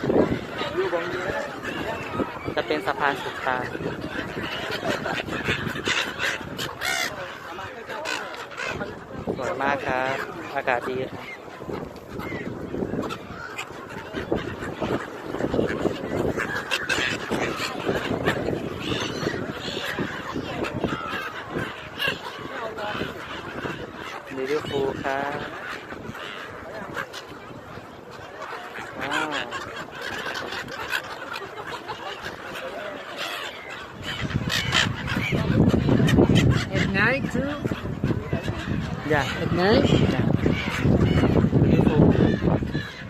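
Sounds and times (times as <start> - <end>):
flock of gulls calling: 0.0 - 43.0.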